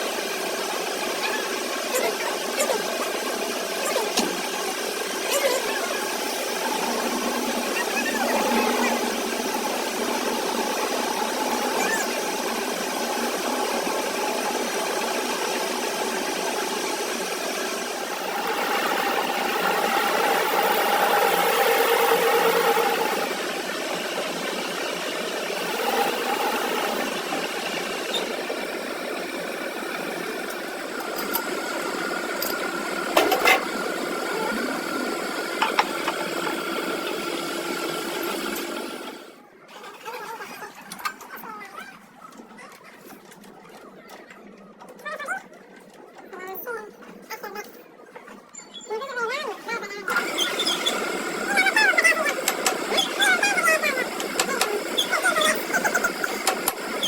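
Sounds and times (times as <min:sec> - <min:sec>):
machinery rattling: 0:00.0 - 0:48.5, 0:49.6 - 0:57.0.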